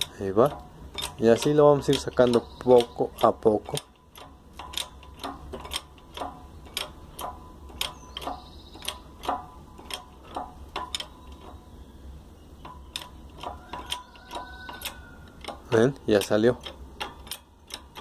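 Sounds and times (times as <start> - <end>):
press clicking and ticking: 0.0 - 11.6, 12.6 - 18.0.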